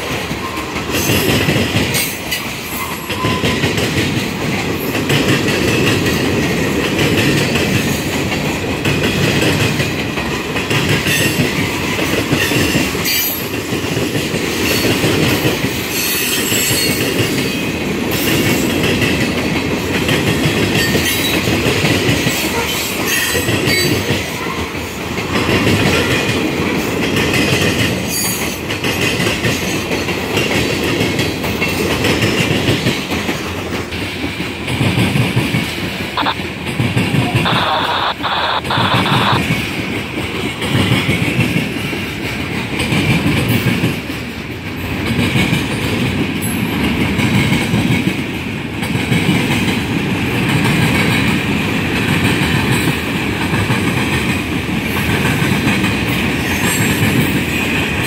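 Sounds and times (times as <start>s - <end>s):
train wheels clacking and banging: 0.0s - 37.4s, 39.4s - 58.0s
train rumble: 0.0s - 58.0s.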